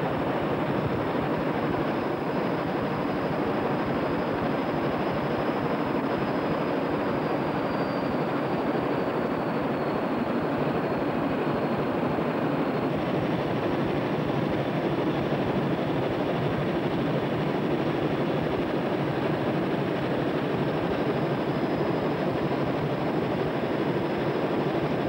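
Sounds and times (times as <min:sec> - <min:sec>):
jet cockpit engine noise: 0:00.0 - 0:25.0.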